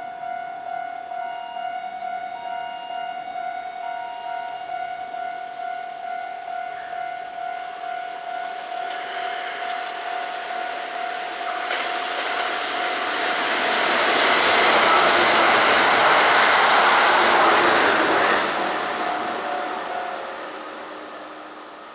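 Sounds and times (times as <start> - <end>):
electric train passing at speed: 0.0 - 21.9
steady high tone: 0.0 - 21.9.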